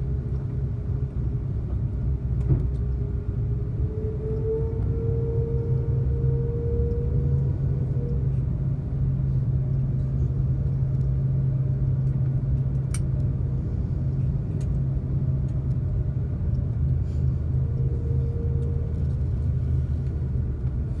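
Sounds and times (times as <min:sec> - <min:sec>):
airplane cabin low rumble: 0:00.0 - 0:21.0
constant low hum: 0:00.0 - 0:21.0.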